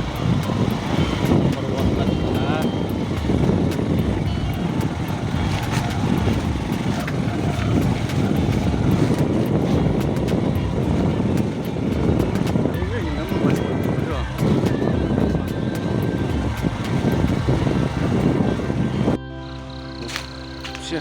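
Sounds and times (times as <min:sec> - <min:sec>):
motorcycle running: 0:00.0 - 0:21.0
wind noise on microphone: 0:00.0 - 0:21.0.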